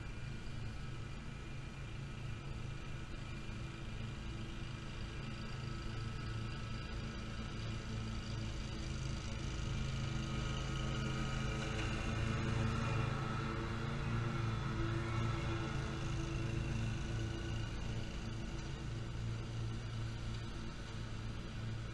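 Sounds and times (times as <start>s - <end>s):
mower engine humming: 1.0s - 21.9s.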